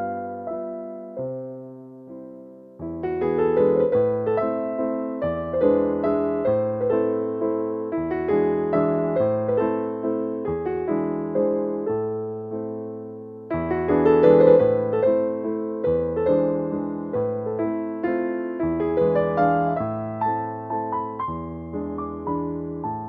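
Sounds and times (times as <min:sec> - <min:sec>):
soft electric piano chords: 0:00.0 - 0:23.0.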